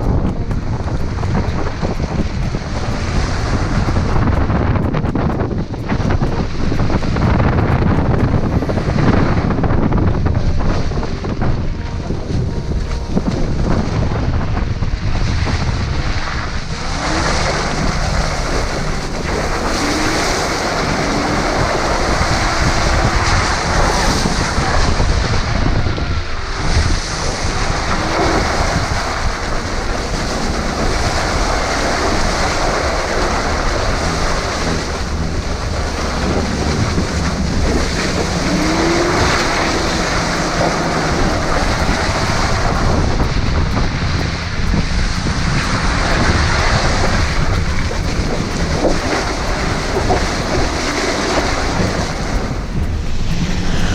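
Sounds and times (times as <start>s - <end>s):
vehicle engine running: 0.0s - 53.9s
wind on microphone: 0.0s - 53.9s.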